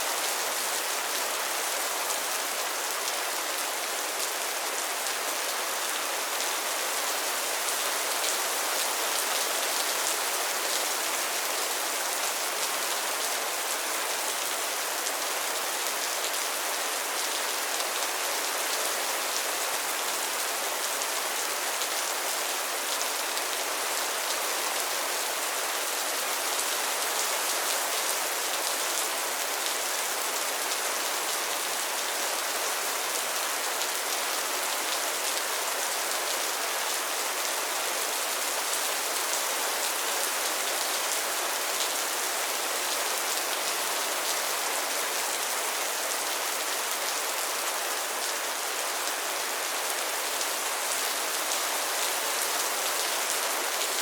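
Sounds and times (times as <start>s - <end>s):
rain falling on a pond: 0.0s - 54.0s.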